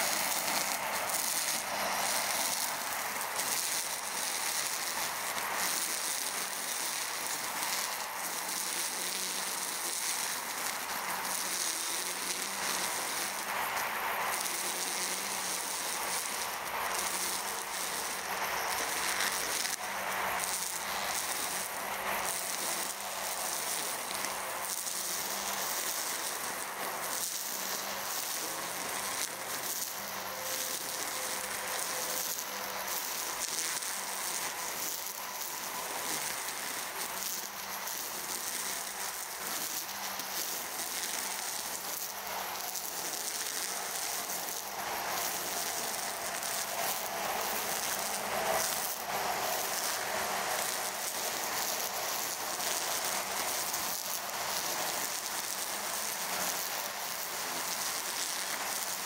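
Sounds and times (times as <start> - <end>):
brush cutter cutting grass: 0.0 - 59.0
electric motor whine: 0.0 - 59.0.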